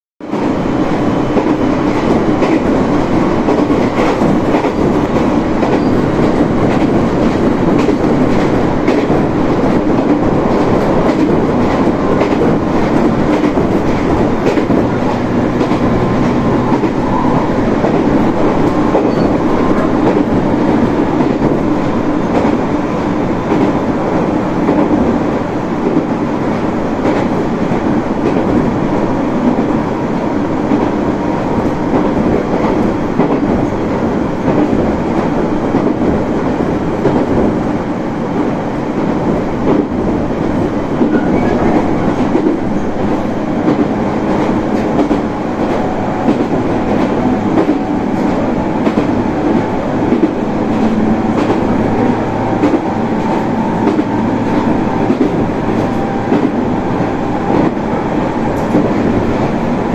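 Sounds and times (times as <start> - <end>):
train wheels rumbling on rail: 0.2 - 59.9
rail joint clicks: 0.3 - 59.9.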